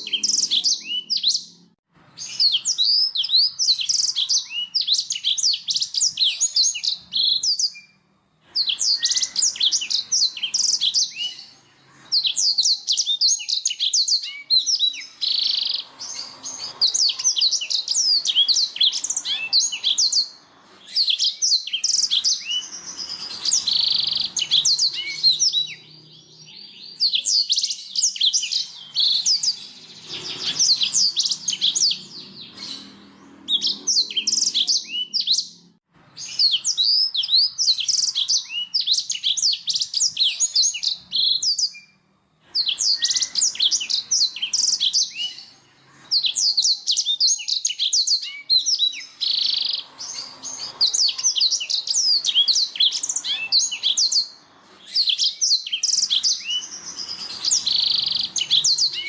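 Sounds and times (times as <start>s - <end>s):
canary trilling and chirping: 0.0s - 59.0s.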